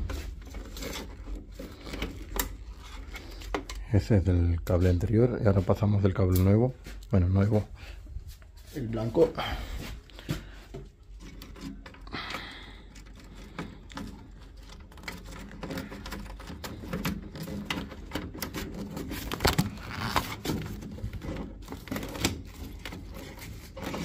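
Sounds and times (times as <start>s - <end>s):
cables clicking and scraping: 0.0s - 5.3s, 10.0s - 24.0s
cable rustling through grommet: 0.0s - 24.0s.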